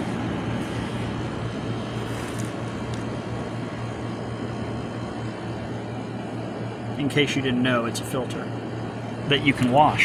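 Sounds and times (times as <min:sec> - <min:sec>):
air conditioner compressor hum: 0:00.0 - 0:10.0
fan blowing air: 0:00.0 - 0:10.0.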